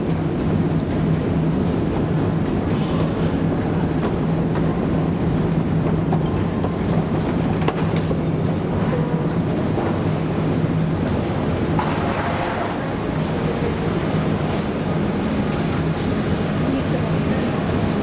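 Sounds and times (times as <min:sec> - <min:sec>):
low hum and rumble: 0:00.0 - 0:18.0.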